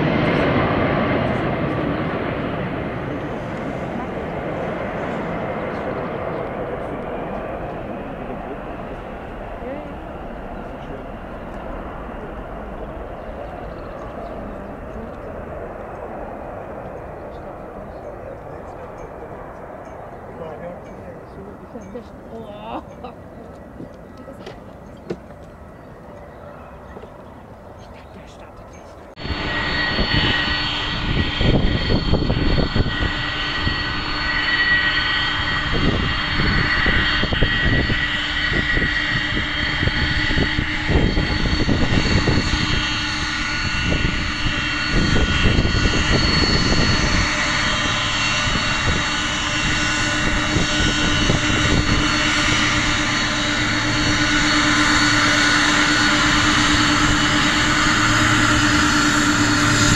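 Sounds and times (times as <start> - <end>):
jet engine whine: 0.0 - 59.9
low rumbles: 0.0 - 59.9.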